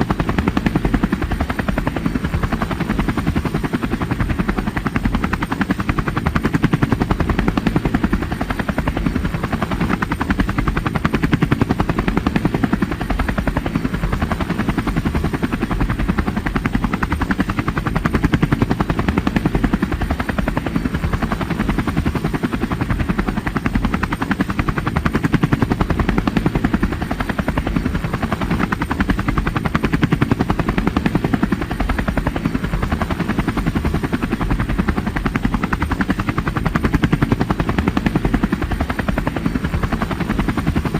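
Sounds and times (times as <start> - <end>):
helicopter engine running: 0.0 - 40.9
helicopter rotor chopping: 0.0 - 40.9.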